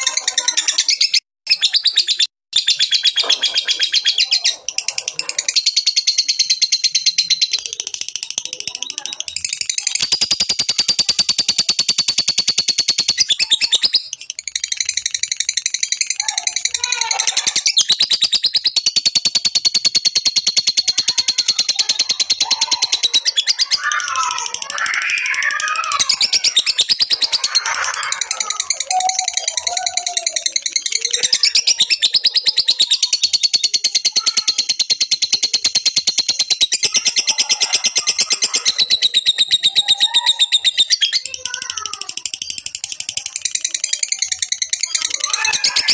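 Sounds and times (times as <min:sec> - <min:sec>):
lovebird chattering: 0:00.0 - 0:45.9.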